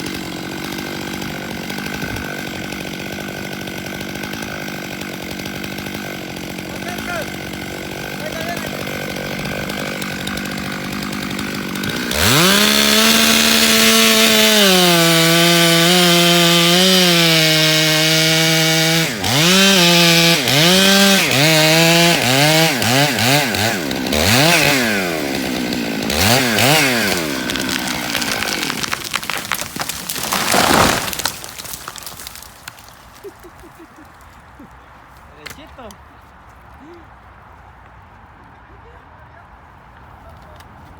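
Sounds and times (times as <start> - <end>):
chainsaw revving and cutting: 0.0 - 34.1
wood cracking: 0.0 - 36.0.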